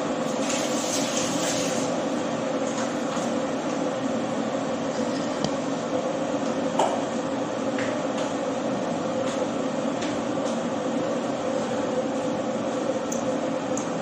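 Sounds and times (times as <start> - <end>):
ventilation fan running: 0.0 - 14.0.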